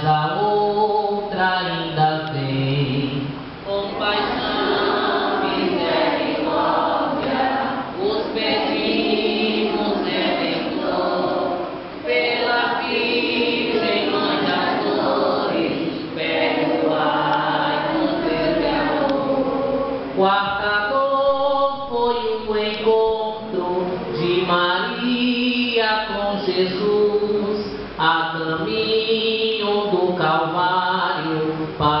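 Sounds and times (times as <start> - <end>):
group singing a hymn: 0.0 - 32.0.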